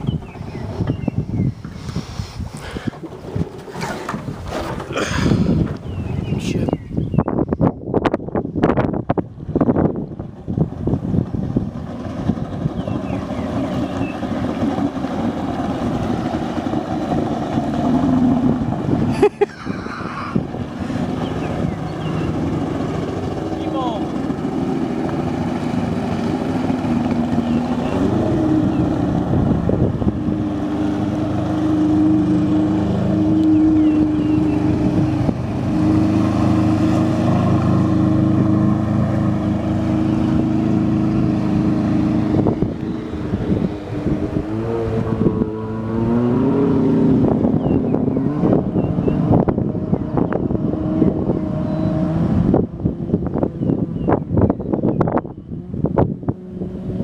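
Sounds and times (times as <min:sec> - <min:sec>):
jet ski engine running: 0:00.0 - 0:57.0
wind buffeting microphone: 0:00.0 - 0:57.0.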